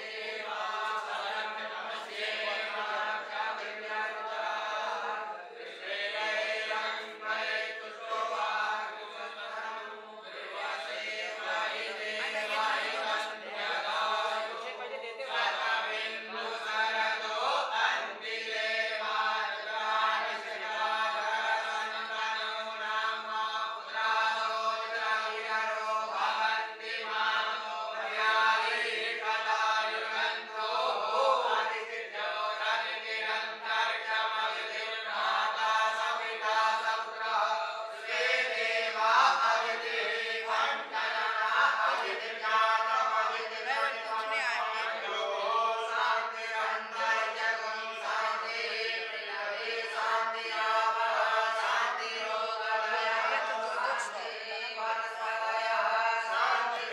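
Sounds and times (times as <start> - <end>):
voices chanting mantras: 0.0 - 56.9.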